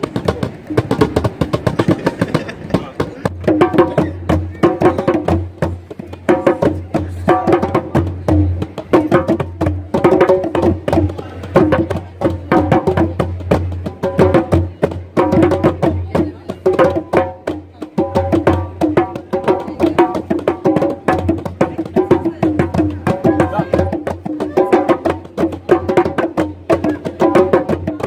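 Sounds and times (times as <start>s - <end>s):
djembes played by hand: 0.0s - 28.0s.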